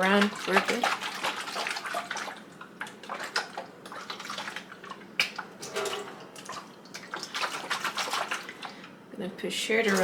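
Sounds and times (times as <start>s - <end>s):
water sloshing in plastic tank: 0.0s - 8.9s, 9.7s - 10.0s.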